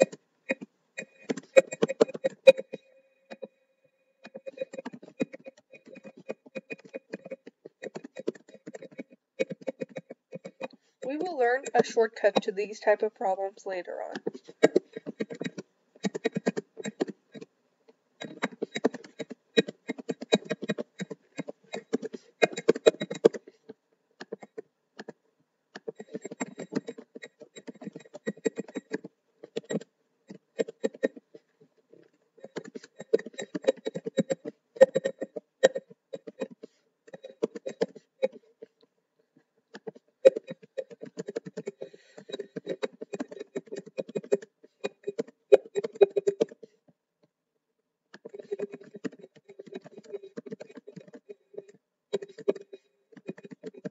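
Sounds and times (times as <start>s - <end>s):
typing on computer keyboard: 0.0s - 3.5s, 4.2s - 12.9s, 14.1s - 17.5s, 18.2s - 25.2s, 25.8s - 31.4s, 32.0s - 38.8s, 39.7s - 46.7s, 48.1s - 53.9s.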